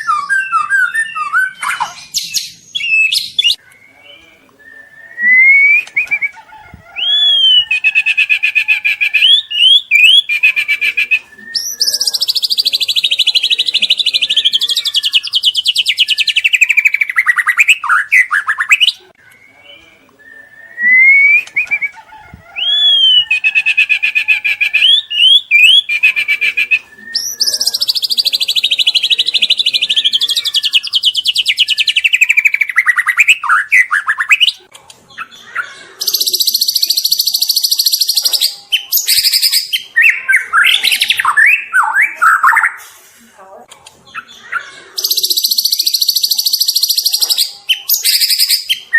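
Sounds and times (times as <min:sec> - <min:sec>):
bird singing trills and whistles: 0:00.0 - 0:34.6, 0:36.0 - 0:42.8, 0:44.2 - 0:48.9.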